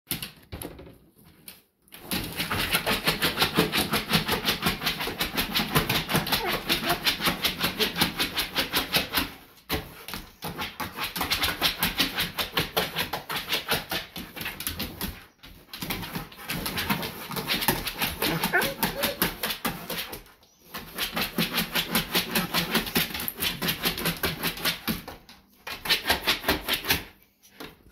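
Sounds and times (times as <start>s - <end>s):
dog claws scratching linoleum: 1.4s - 27.9s.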